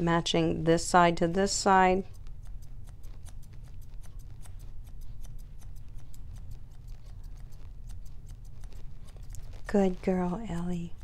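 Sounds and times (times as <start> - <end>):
grooming shears snipping: 1.3 - 11.0.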